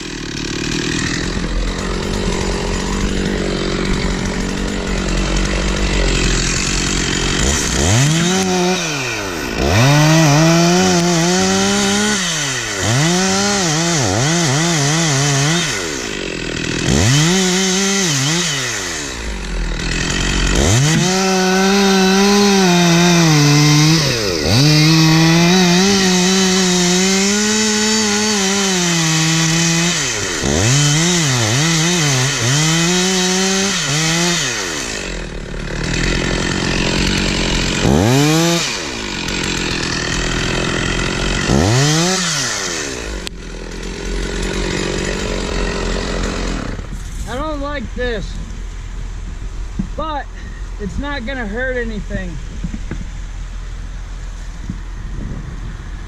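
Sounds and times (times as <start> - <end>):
chainsaw cutting wood: 0.0 - 55.2.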